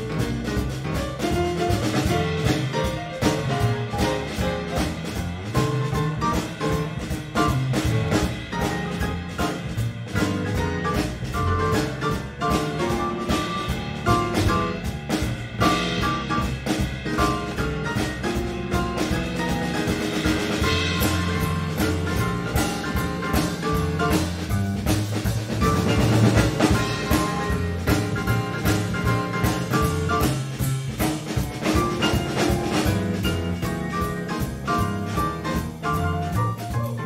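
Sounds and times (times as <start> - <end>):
piano chords and notes: 0.0 - 37.0
upright bass: 0.0 - 37.0.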